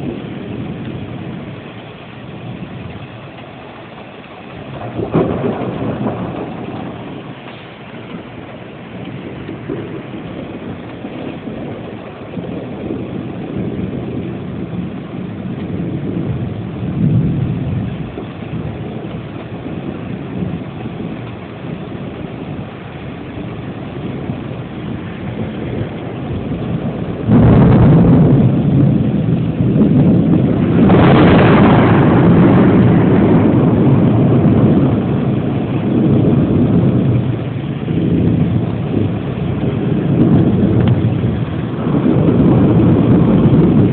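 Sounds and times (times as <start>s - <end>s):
thunder rumbling and cracking: 0.0s - 43.9s.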